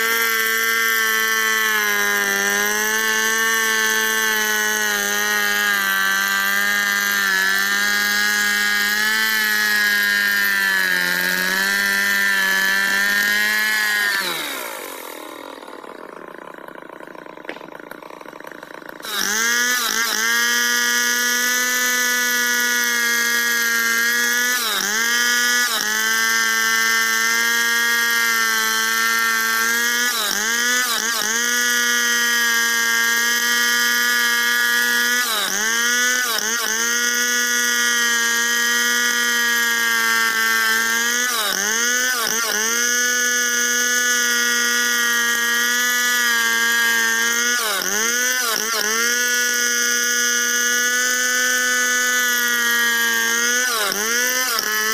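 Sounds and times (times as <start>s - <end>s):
chainsaw cutting through log: 0.0s - 54.9s.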